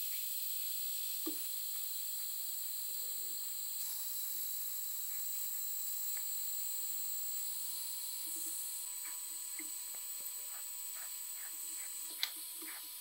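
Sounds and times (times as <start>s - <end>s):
hot air gun hissing: 0.0s - 13.0s.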